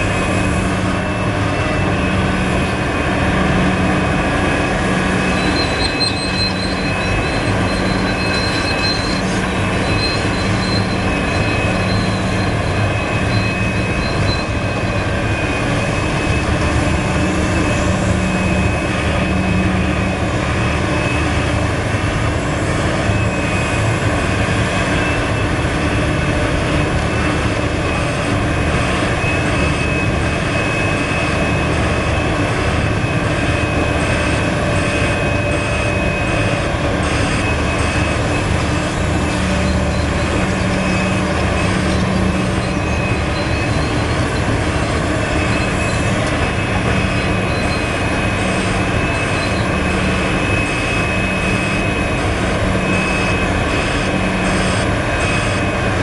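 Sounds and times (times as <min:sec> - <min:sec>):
excavator diesel engine running: 0:00.0 - 0:56.0
high whine: 0:00.0 - 0:56.0.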